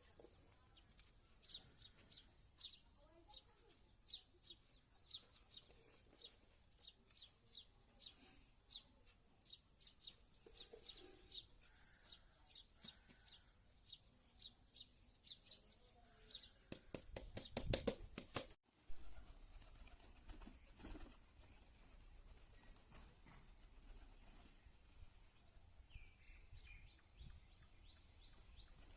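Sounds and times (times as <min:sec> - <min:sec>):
small bird chirping: 0:00.1 - 0:16.7, 0:20.2 - 0:28.9.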